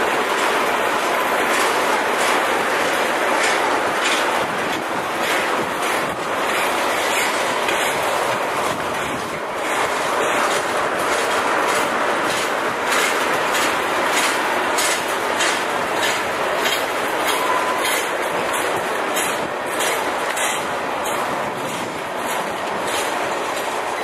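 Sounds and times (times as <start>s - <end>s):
clicks over rail joints: 0.0s - 24.0s
steel wheels rolling on rail: 0.0s - 24.0s.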